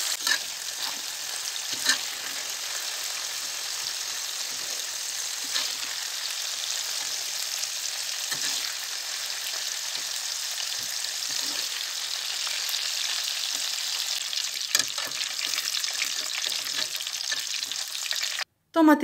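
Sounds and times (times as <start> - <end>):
crackling sizzle of frying oil: 0.0 - 18.5.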